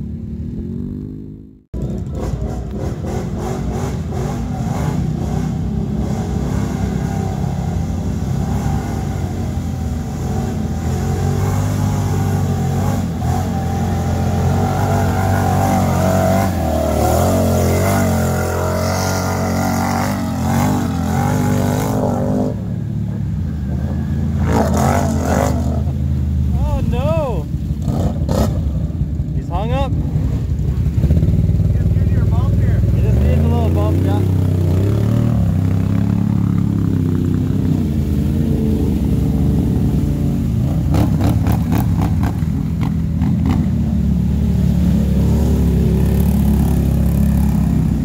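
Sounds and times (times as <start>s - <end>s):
quad bike engine revving: 0.0s - 23.1s, 23.7s - 48.0s
quad ploughing through mud and water: 1.8s - 48.0s.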